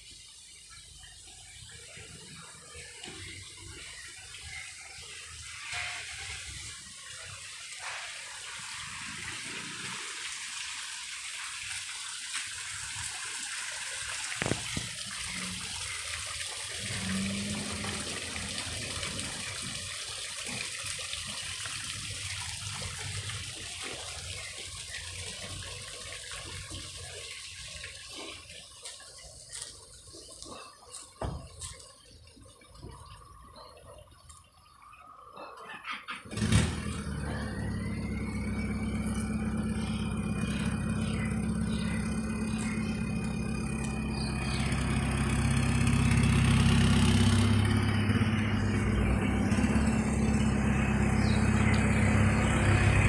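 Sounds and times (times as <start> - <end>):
water splashing from fountain: 0.0 - 53.0.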